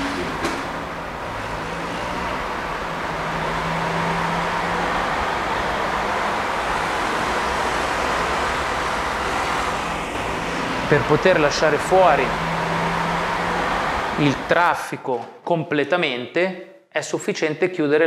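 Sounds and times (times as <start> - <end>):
scooter pulling away: 0.0 - 14.5
car engines accelerating: 0.0 - 14.8
road noise: 0.0 - 15.0.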